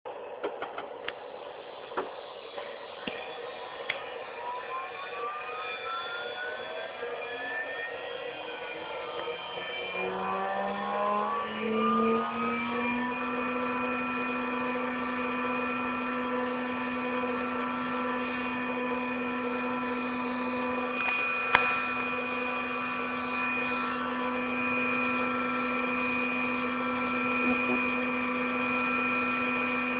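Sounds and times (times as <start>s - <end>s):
spindle motor whine: 0.1s - 29.9s.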